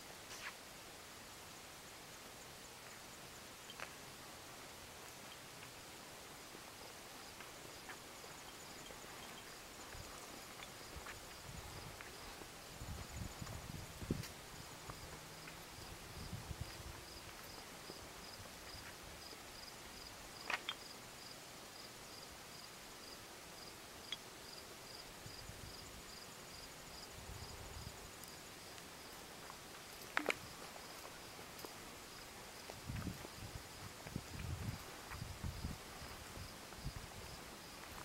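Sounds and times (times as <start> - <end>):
cricket chirping: 1.5 - 38.0.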